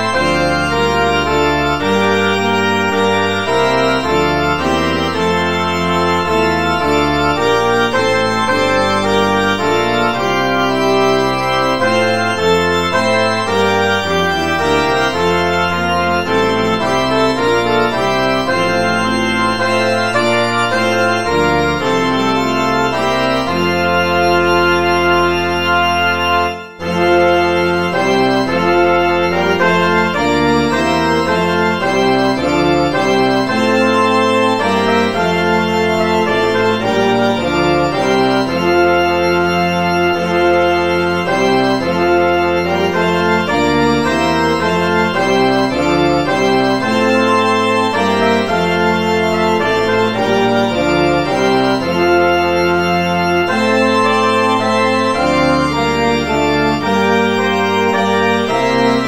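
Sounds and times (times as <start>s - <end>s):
organ playing hymn chords: 0.0s - 59.0s.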